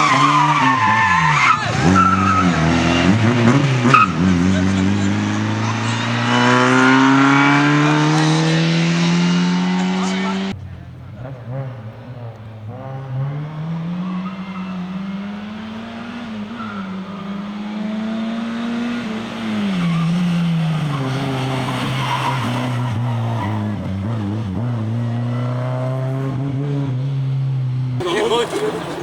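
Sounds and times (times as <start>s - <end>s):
rally car engine at speed: 0.0s - 29.0s.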